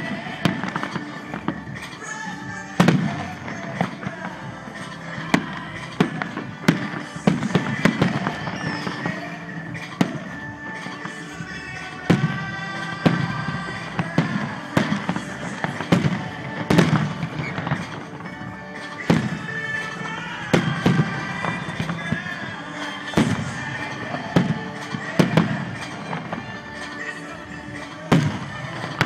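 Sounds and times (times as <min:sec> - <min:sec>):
music: 0:00.0 - 0:29.0.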